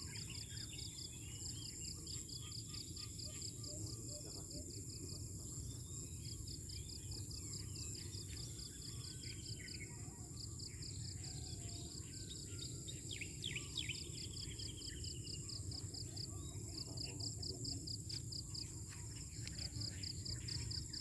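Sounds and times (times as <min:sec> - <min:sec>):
birds chirping and trilling: 0:00.0 - 0:21.0
insects buzzing and chirping: 0:00.0 - 0:21.0.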